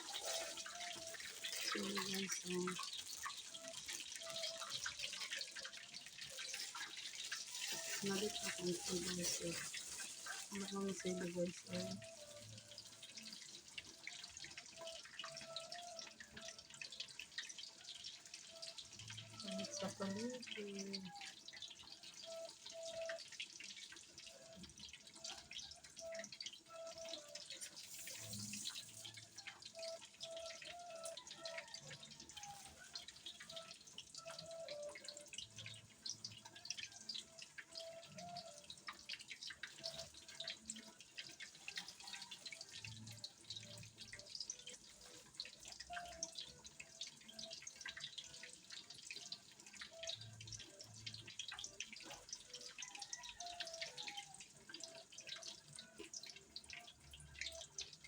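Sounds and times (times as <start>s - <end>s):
food frying in hot oil: 0.0s - 58.0s.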